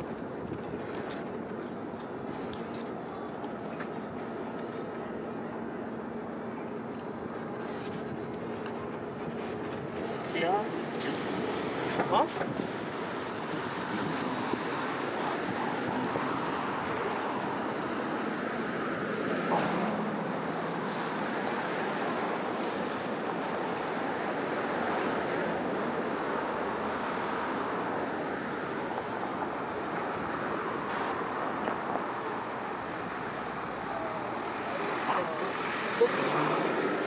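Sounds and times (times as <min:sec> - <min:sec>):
distant road traffic: 0:00.0 - 0:37.0.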